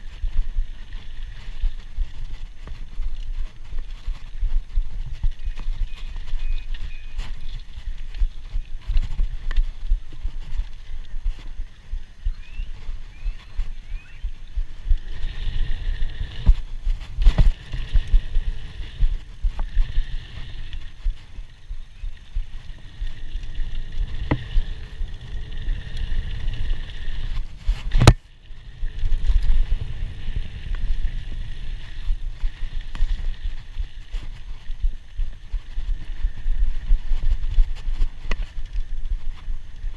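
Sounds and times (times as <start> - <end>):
bike rattling: 0.0 - 39.9
bike tyres rumbling on dirt: 0.0 - 39.9.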